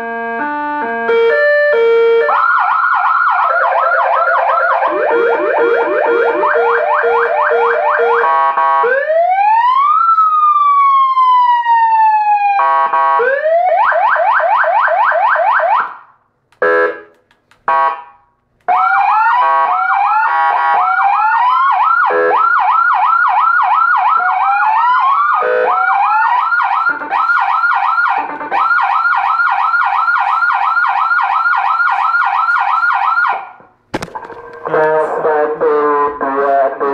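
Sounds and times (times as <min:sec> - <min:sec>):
electronic siren changing tones: 0:00.0 - 0:16.0, 0:18.7 - 0:33.4.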